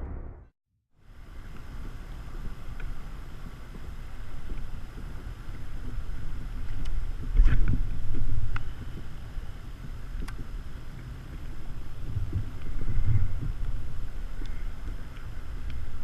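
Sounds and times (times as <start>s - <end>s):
wind rumbling on microphone: 1.1s - 16.0s.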